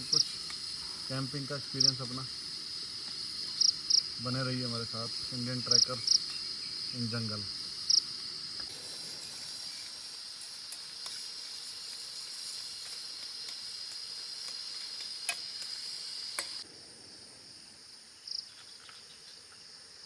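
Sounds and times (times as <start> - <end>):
insects chirping chorus: 0.0 - 20.0.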